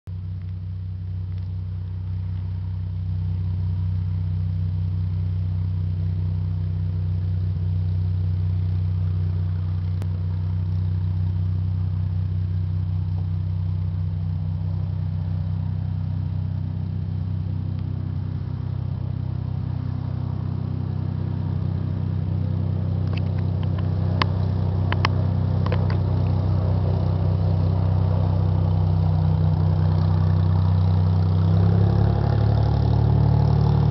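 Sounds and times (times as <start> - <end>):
propeller plane engine drone: 0.1 - 33.9.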